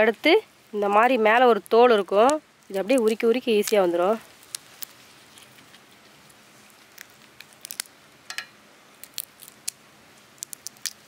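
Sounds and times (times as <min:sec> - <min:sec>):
prawn shell crackling: 0:00.0 - 0:08.3, 0:08.9 - 0:11.0.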